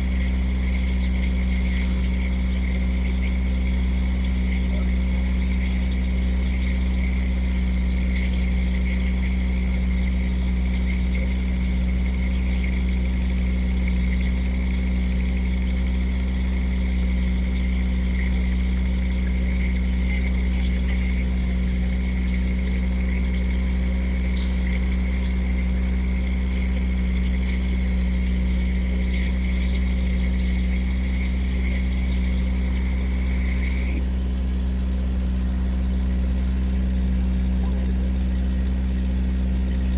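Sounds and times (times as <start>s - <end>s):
boat engine droning: 0.0s - 39.9s
high engine whine: 0.0s - 39.9s.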